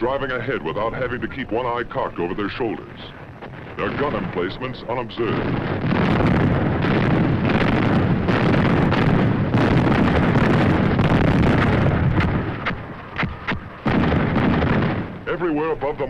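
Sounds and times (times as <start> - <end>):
artillery fire and explosions: 0.0 - 16.0.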